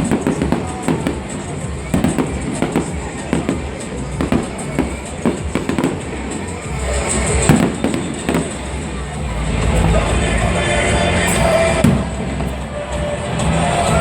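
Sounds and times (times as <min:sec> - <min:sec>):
fireworks bangs and pops: 0:00.0 - 0:09.9, 0:11.4 - 0:14.0
music playing: 0:00.0 - 0:14.0.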